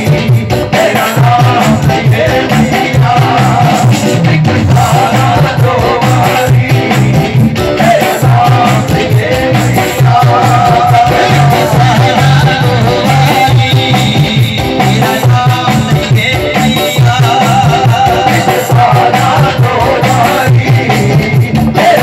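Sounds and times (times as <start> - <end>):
loud devotional instrumental music: 0.0 - 22.0.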